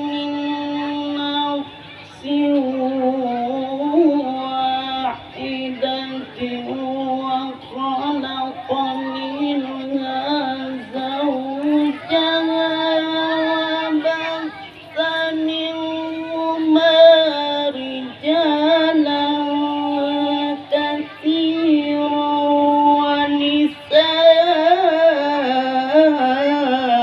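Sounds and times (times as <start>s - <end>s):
high voice chanting recitation: 0.0s - 27.0s.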